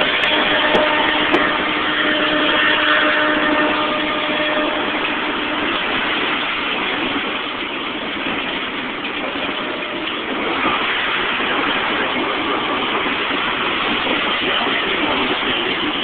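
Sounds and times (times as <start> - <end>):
steel train wheels on rails: 0.0 - 16.0.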